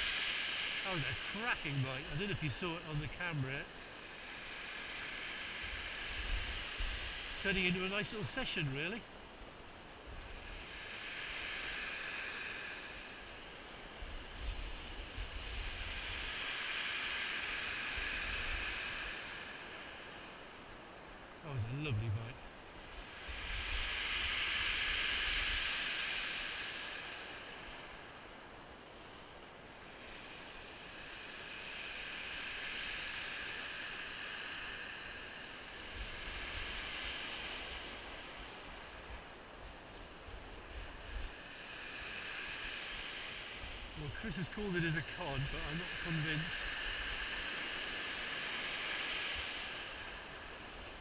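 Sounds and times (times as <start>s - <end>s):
surf on shingle beach: 0.0s - 51.0s.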